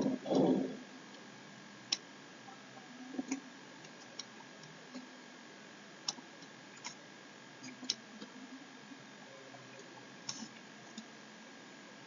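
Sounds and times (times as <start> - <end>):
faint constant tone: 0.0 - 12.0.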